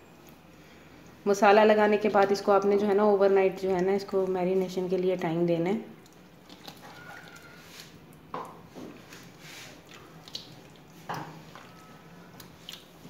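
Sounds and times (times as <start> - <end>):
hands squishing wet marinade: 2.0 - 13.0.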